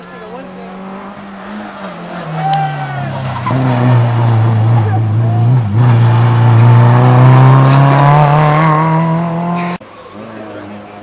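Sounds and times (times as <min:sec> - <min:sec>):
rally car engine accelerating: 0:00.3 - 0:09.8.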